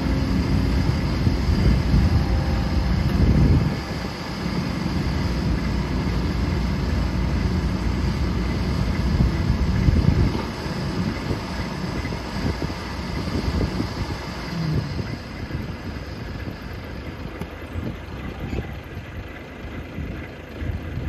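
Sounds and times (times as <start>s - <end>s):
excavator diesel engine rumble: 0.0s - 21.0s.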